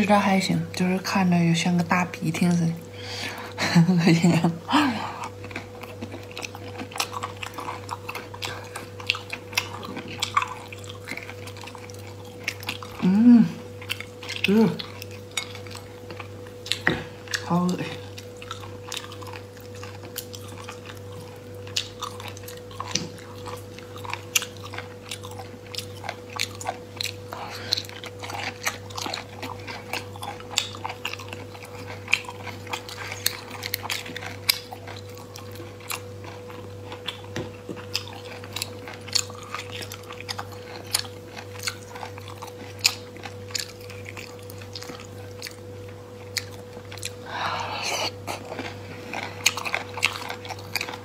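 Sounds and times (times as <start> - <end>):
low electrical hum: 0.0 - 51.0
chewing: 4.2 - 51.0.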